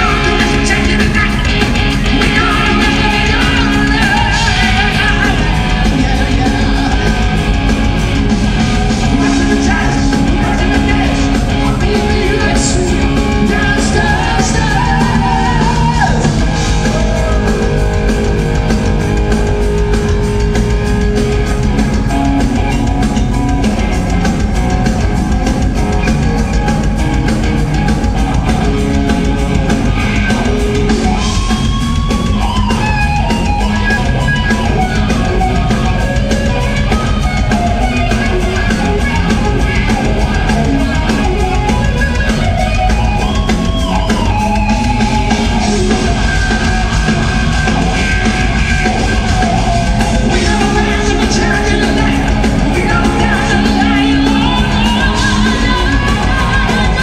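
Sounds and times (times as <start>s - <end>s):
hard rock band playing live: 0.0s - 57.0s
sliding high guitar notes: 0.0s - 57.0s.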